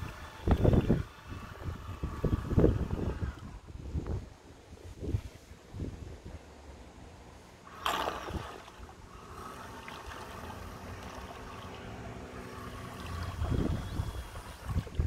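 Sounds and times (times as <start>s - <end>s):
model boat motor hum: 0.0s - 4.8s, 6.6s - 15.0s
wind buffeting microphone: 0.0s - 6.5s, 7.7s - 15.0s.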